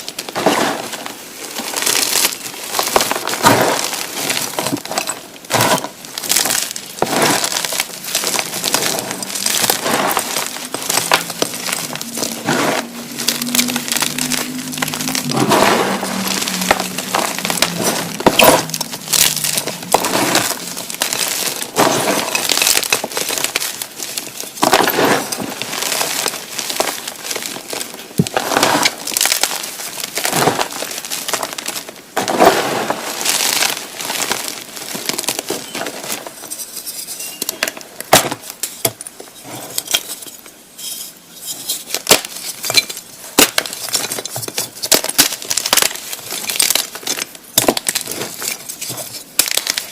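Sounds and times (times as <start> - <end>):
chalk blocks crunching by hand: 0.0 - 49.9.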